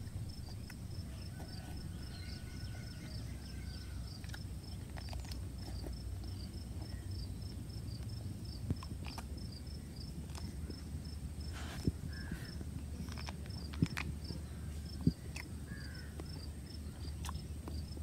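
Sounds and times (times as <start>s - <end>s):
biting and chewing fruit: 0.0s - 18.0s
insect chirping: 0.0s - 18.0s
low steady rumble: 0.0s - 18.0s.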